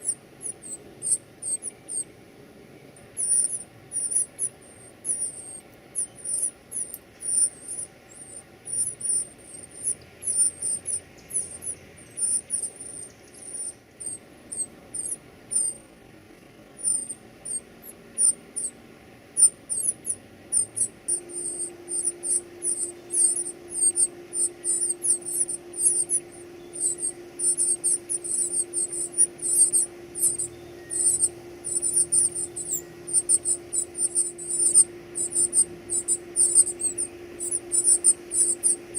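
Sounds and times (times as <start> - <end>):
baby birds begging chirps: 0.0 - 2.1, 2.8 - 38.9
faint steady hum: 0.0 - 38.9.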